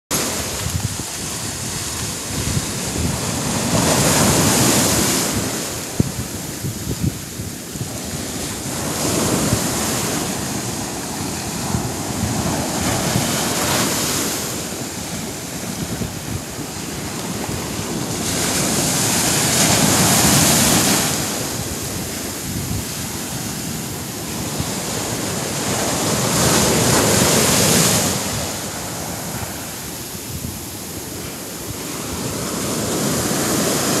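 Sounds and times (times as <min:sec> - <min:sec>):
ocean surf breaking on beach: 0:00.1 - 0:34.0.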